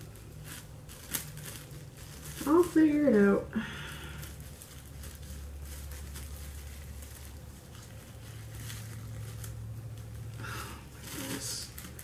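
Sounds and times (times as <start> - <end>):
plastic wrap crinkling: 0.0 - 12.0
steady low hum: 0.0 - 12.0.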